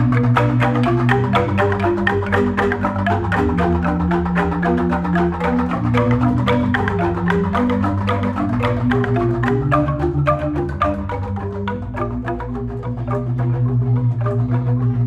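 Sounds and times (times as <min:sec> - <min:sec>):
bamboo xylophones playing: 0:00.0 - 0:15.0
deep bamboo bass notes: 0:00.0 - 0:15.0.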